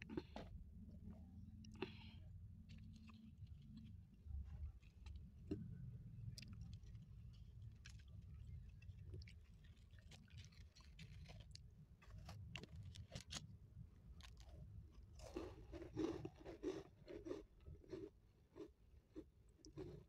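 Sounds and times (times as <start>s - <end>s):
cookie crunching and chewing: 0.0s - 20.0s.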